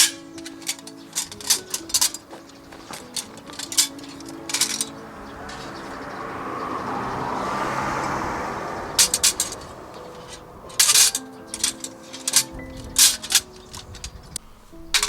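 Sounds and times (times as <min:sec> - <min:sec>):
sharp metallic clinks and knocks: 0:00.0 - 0:15.0
soft background music: 0:00.0 - 0:15.0.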